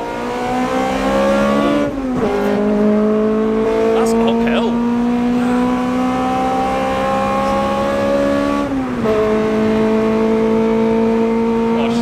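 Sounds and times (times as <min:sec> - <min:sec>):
car engine screaming at high revs: 0:00.0 - 0:12.0.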